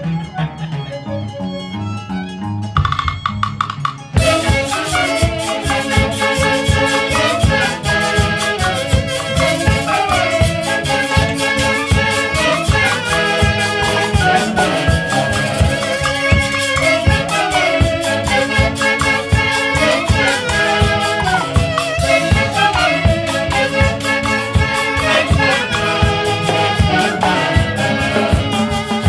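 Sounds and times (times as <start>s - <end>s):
band playing with driving beat: 2.6s - 29.0s.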